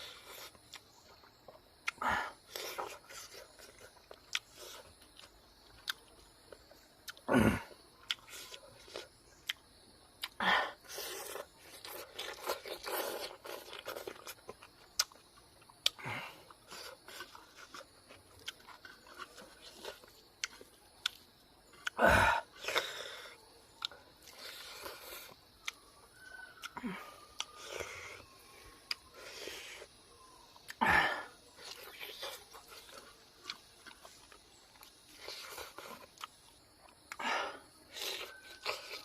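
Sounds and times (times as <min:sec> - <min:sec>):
person chewing and crunching food: 0:00.0 - 0:39.0.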